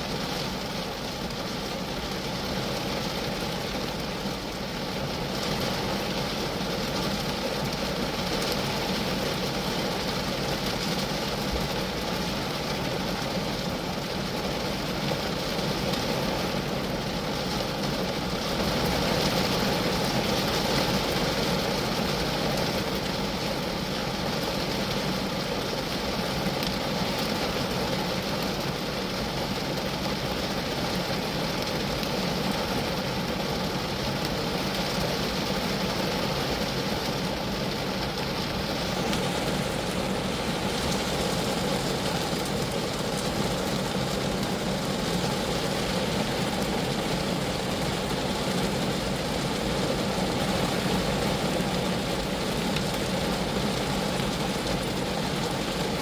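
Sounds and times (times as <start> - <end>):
rain pattering on a car: 0.0 - 56.0.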